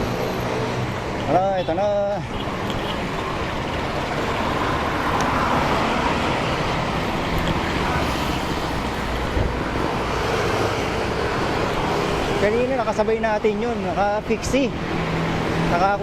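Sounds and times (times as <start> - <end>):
low traffic rumble: 0.0 - 16.0
passing cars: 0.0 - 16.0.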